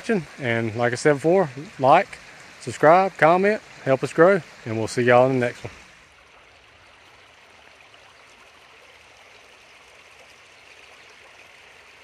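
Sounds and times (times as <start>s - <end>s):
creek water babbling over rock: 0.0s - 12.0s.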